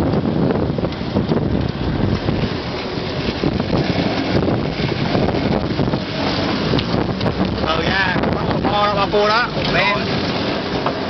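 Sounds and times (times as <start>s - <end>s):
off-road vehicle engine running: 0.0s - 11.0s
wind noise on microphone: 0.0s - 11.0s.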